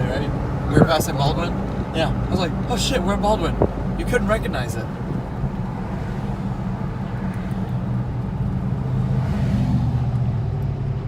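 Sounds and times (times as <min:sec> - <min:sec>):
car engine inside cabin: 0:00.0 - 0:11.0
road rumble: 0:00.0 - 0:11.0.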